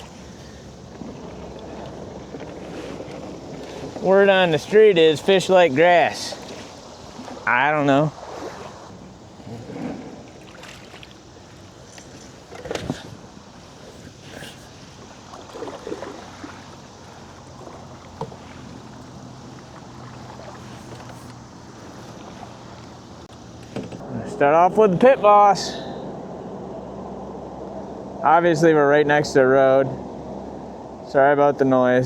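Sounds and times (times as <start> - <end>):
road traffic noise: 0.0 - 31.8.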